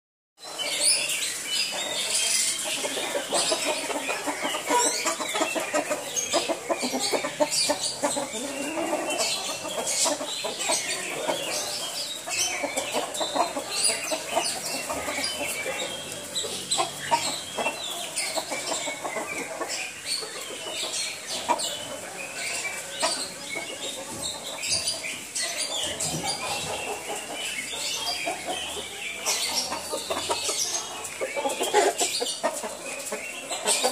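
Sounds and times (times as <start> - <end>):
chickens clucking: 0.4 - 33.9.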